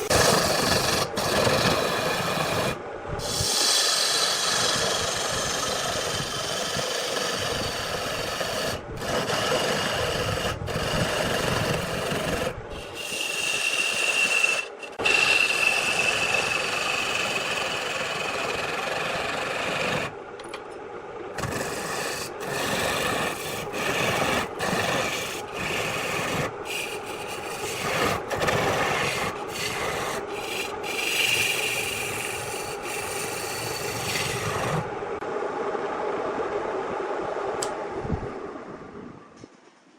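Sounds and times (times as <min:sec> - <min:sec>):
lathe tool cutting wood: 0:00.0 - 0:20.1, 0:21.4 - 0:34.9
faint tones from spinning wood: 0:00.0 - 0:39.9.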